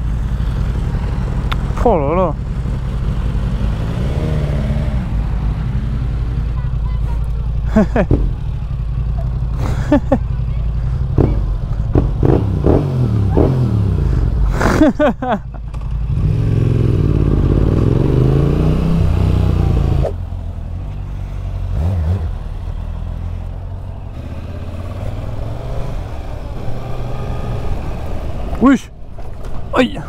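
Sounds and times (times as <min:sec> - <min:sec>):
motorcycle engine accelerating: 0:00.0 - 0:28.6.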